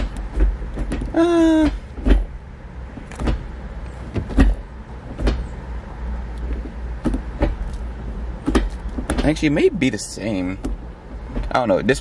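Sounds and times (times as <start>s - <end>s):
gear lever clunking: 0.0s - 5.6s, 6.3s - 9.6s, 10.2s - 11.8s.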